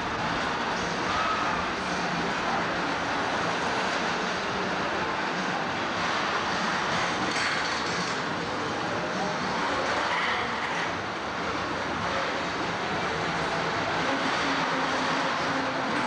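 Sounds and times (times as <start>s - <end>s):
crowd noise: 0.0s - 16.0s
spinning fairground ride running: 0.0s - 16.0s.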